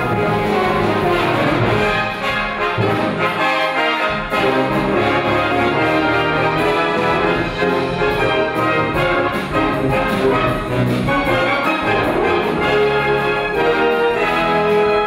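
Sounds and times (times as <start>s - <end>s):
brass band playing chords: 0.0s - 15.0s
low brass bass line: 0.0s - 15.0s.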